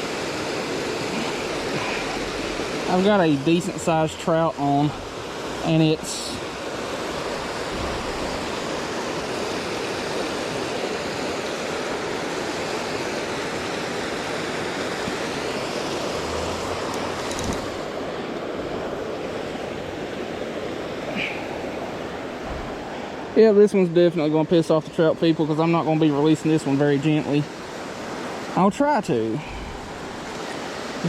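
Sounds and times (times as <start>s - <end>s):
water rushing below a dam: 0.0s - 31.0s.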